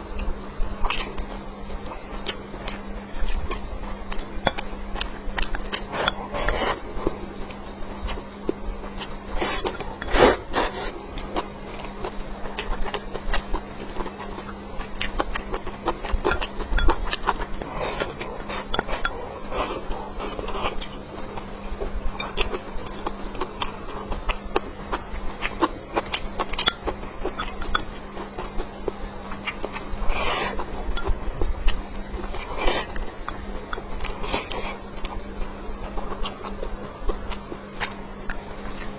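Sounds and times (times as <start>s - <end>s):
faint steady hum: 0.0s - 38.9s
wet chewing and smacking: 0.8s - 10.5s, 11.1s - 38.9s.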